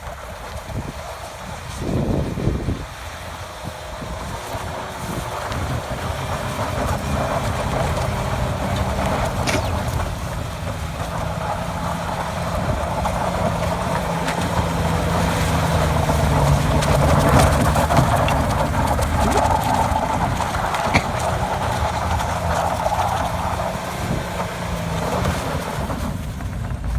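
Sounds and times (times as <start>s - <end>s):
pickup truck engine running: 0.0s - 26.9s.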